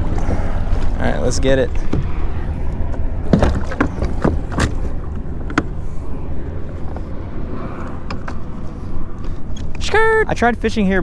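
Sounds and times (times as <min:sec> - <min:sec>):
low rumble of kayak: 0:00.0 - 0:09.8.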